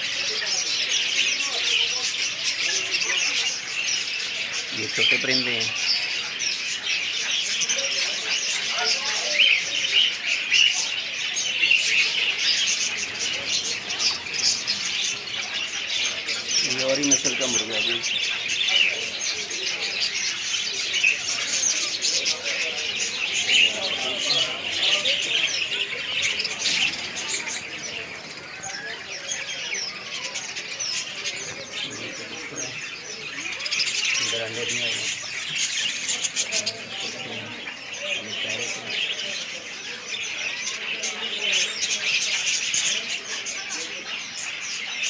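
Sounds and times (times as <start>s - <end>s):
finches chirping: 0.0s - 45.0s.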